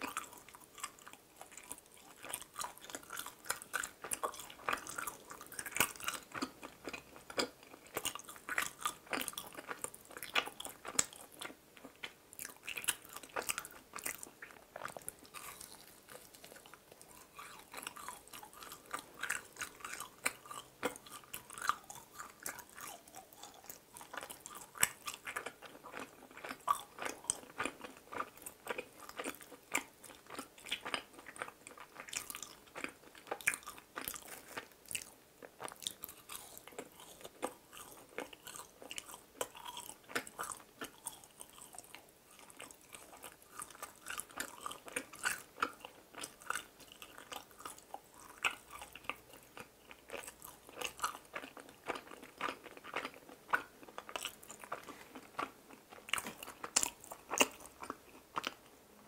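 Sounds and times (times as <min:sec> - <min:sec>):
chewing crunchy food: 0:00.0 - 0:58.8.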